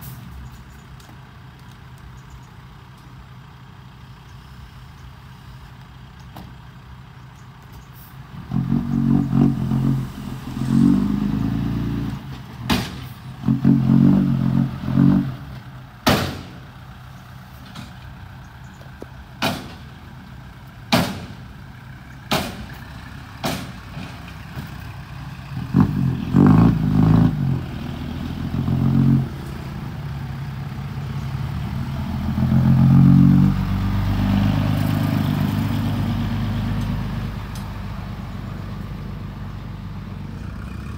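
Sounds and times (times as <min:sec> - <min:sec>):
diesel truck idling and revving: 0:00.0 - 0:40.9.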